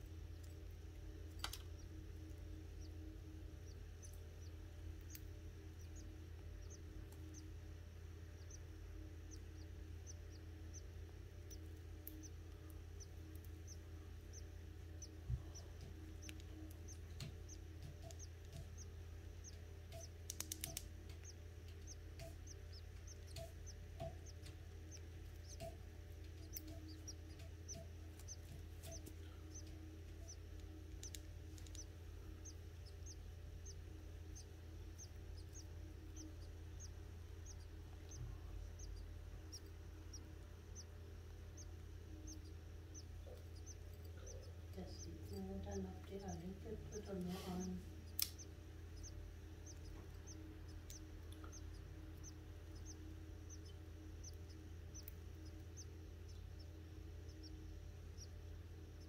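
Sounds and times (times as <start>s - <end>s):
nestlings peeping: 0.0s - 59.0s.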